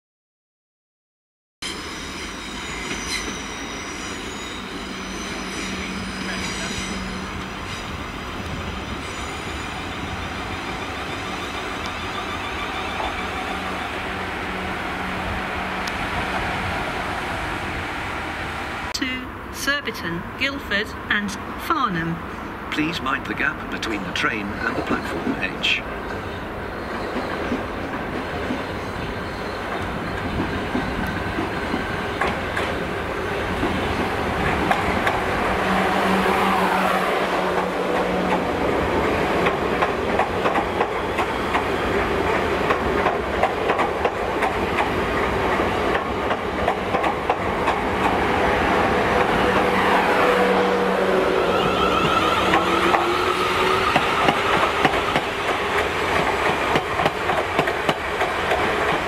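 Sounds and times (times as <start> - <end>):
train wheels rumbling on track: 1.6 - 18.9, 22.2 - 59.0.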